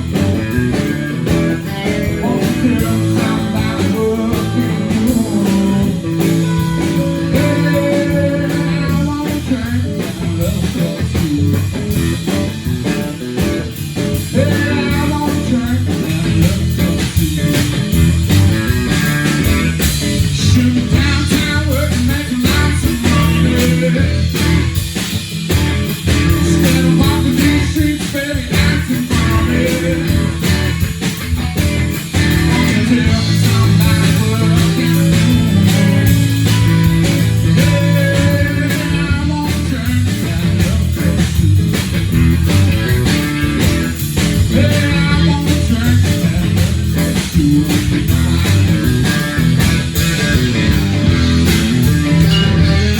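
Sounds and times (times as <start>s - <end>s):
bass line: 0.0s - 52.9s
blues-rock band playing: 0.0s - 52.9s
electric guitar: 0.0s - 52.9s.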